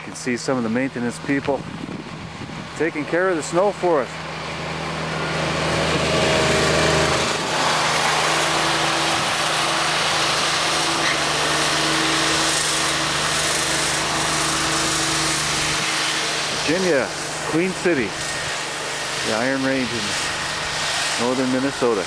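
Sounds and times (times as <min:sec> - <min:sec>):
tractor rotary broom sweeping snow: 0:00.0 - 0:01.6, 0:02.6 - 0:22.0.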